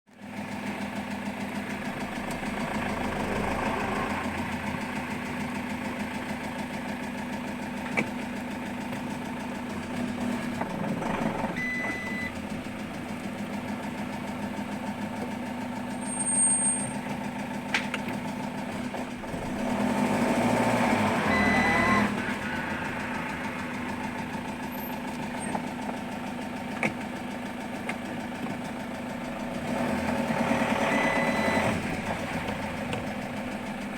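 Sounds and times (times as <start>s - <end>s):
diesel engine knocking: 0.1s - 33.9s.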